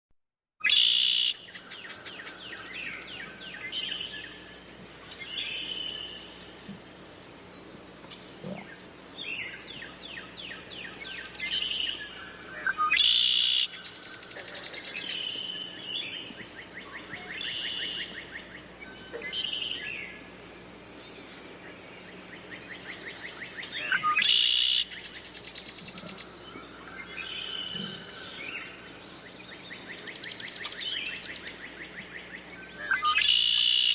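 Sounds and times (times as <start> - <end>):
birds singing and calling: 0.6 - 33.9.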